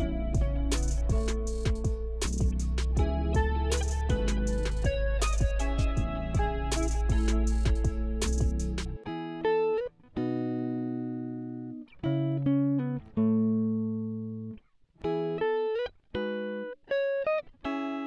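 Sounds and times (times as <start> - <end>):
plucked guitar notes and chords: 0.0 - 18.0.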